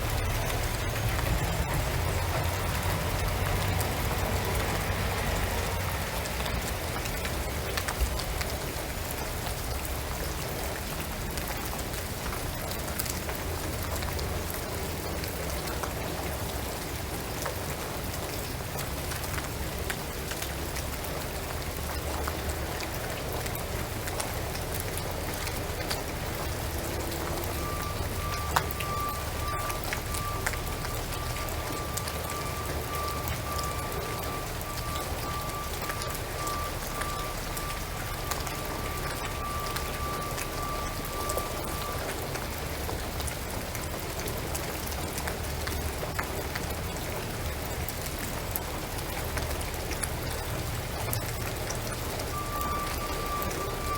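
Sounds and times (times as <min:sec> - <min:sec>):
drips ticking: 0:00.0 - 0:53.9
rain on a shingled roof: 0:00.0 - 0:53.9.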